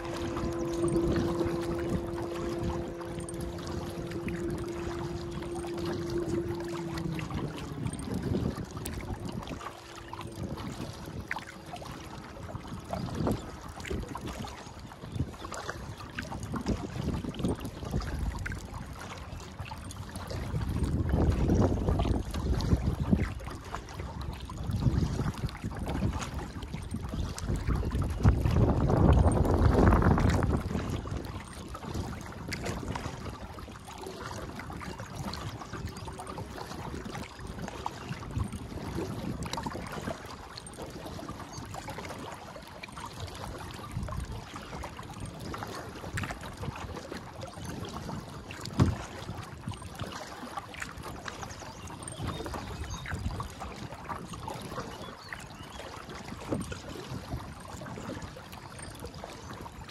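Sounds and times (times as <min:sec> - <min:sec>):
paddle strokes splashing water: 0:00.0 - 0:59.9
wind buffeting microphone: 0:00.0 - 0:59.9.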